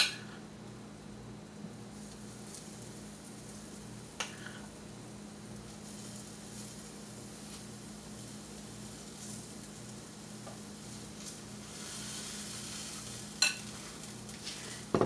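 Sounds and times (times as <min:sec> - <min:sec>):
batter sizzling on a griddle: 0:00.0 - 0:15.0.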